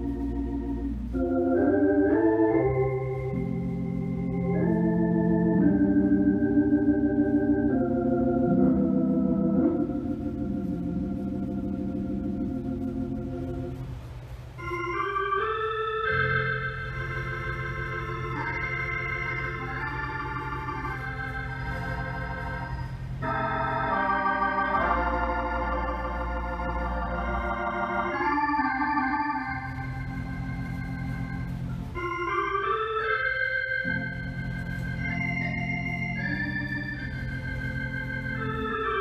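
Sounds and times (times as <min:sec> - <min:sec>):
organ chords: 0:00.0 - 0:39.0.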